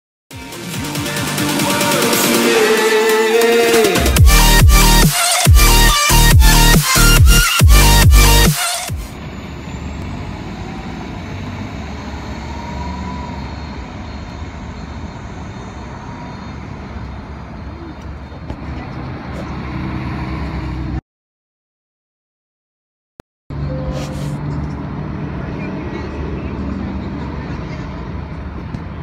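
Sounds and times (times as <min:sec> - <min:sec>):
bus engine running: 0:00.4 - 0:21.0, 0:23.5 - 0:29.0
traffic noise: 0:01.7 - 0:21.0, 0:23.5 - 0:29.0.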